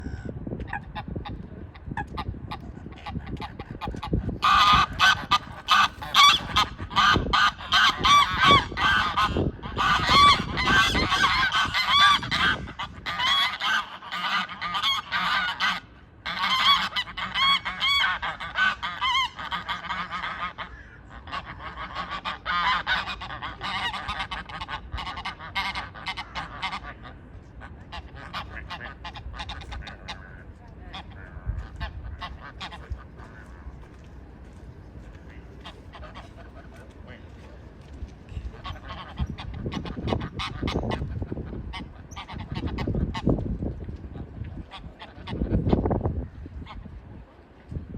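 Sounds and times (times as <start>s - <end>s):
ducks and fowl calling: 0.0s - 34.0s, 35.2s - 37.6s, 38.3s - 47.0s.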